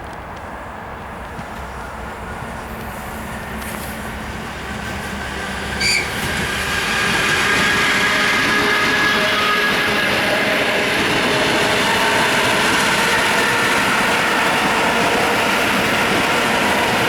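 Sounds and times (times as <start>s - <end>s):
train rail and wheel noise: 0.0s - 17.0s.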